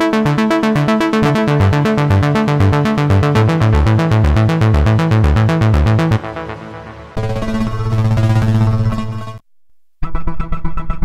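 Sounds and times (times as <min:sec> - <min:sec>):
synth bass line: 0:00.0 - 0:09.4.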